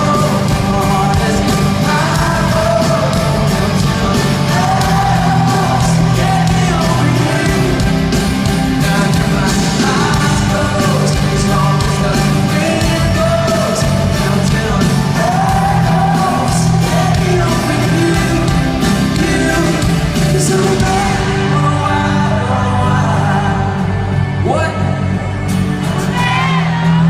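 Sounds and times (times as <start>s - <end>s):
lead vocal singing: 0.0s - 27.0s
live pop-rock band playing: 0.0s - 27.0s.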